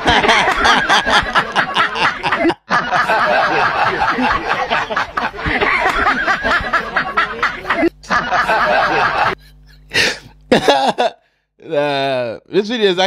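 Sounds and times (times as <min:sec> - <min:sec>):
people laughing: 0:00.0 - 0:11.2.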